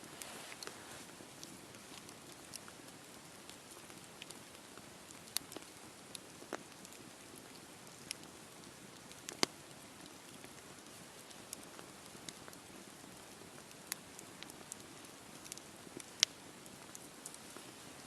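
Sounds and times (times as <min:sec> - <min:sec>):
campfire hissing: 0:00.0 - 0:18.0
fire crackling and popping: 0:00.0 - 0:18.0.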